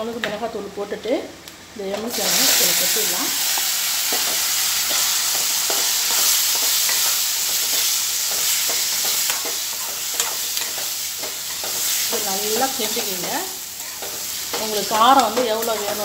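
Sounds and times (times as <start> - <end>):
food sizzling in hot oil: 2.1 - 16.0.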